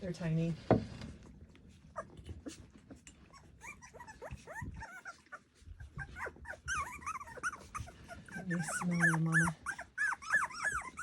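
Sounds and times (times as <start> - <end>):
puppies whimpering and squeaking: 1.2 - 11.0.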